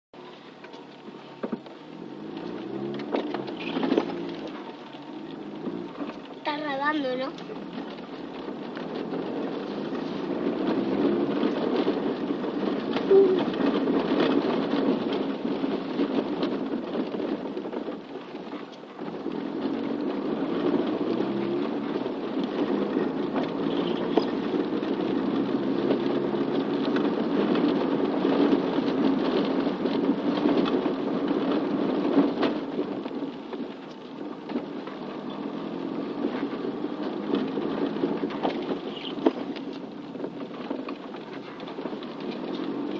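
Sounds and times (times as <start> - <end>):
rain pattering: 0.2 - 42.9.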